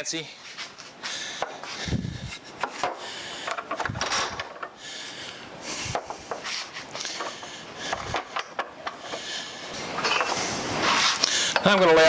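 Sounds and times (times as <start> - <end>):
wood scraping on wood: 0.4 - 12.0.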